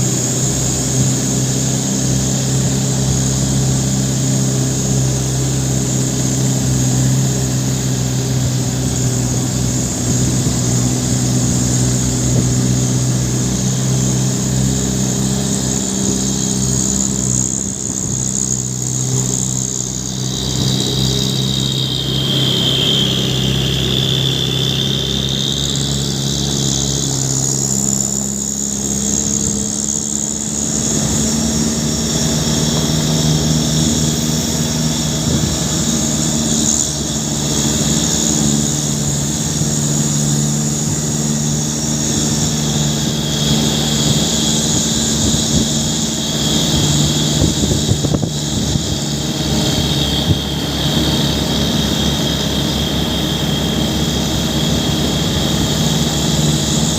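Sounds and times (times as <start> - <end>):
heavy truck engine running: 0.0 - 56.9
high whine: 0.0 - 56.9.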